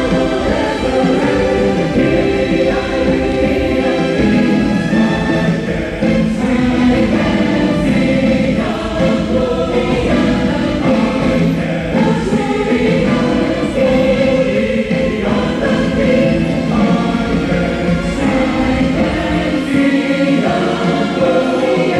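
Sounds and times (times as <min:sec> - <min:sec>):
choir singing gospel song: 0:00.0 - 0:21.9.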